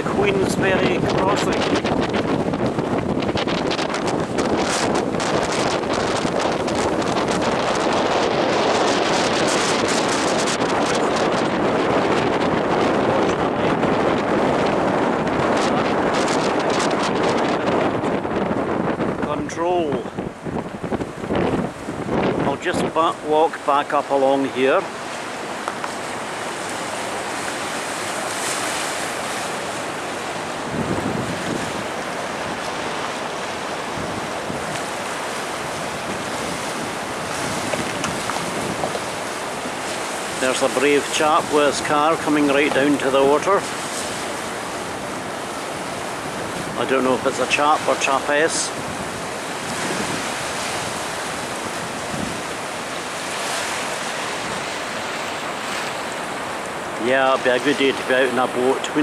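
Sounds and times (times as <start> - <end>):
water washing over slipway: 0.0 - 59.0
wind on microphone: 0.0 - 59.0.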